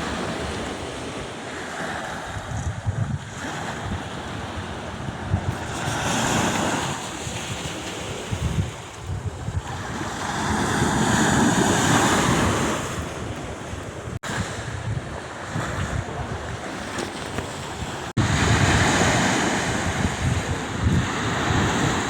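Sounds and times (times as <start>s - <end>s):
sea surf washing: 0.0s - 22.0s
wind buffeting microphone: 0.0s - 22.0s.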